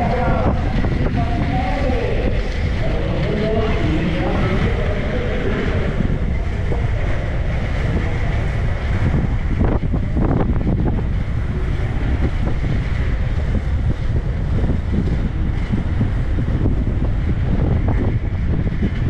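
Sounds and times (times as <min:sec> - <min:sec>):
skate wheels rolling on asphalt: 0:00.0 - 0:19.0
wind buffeting microphone: 0:00.0 - 0:19.0.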